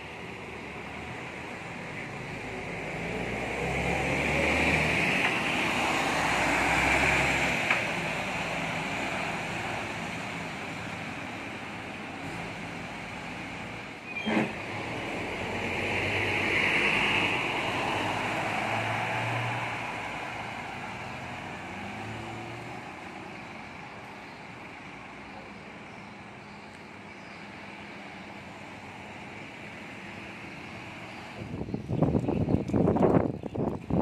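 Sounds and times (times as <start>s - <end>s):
bus engines pulling away: 0.0s - 34.0s.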